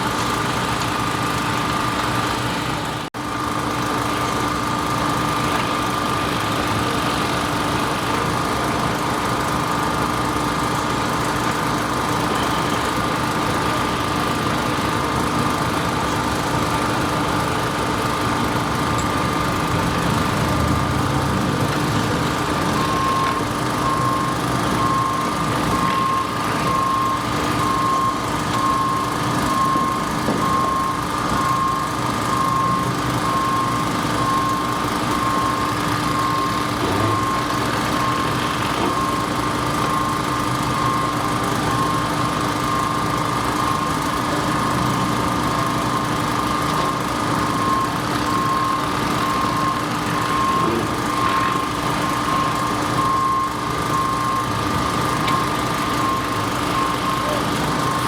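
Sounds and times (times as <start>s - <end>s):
engine running with pulsing whine: 0.0s - 58.0s.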